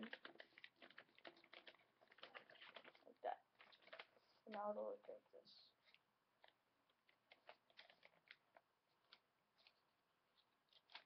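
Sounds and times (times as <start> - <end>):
paper crinkling and rustling: 0.0 - 5.2, 5.8 - 11.0.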